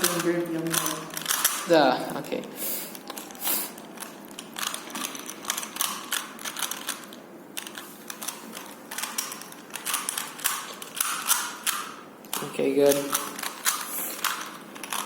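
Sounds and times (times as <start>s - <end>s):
puzzle cube clicking: 0.0s - 1.7s, 3.0s - 15.0s.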